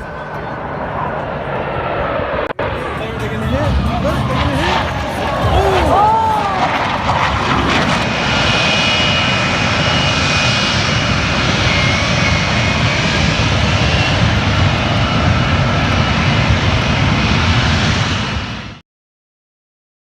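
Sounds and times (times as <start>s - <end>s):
jet engines running: 0.0s - 18.8s.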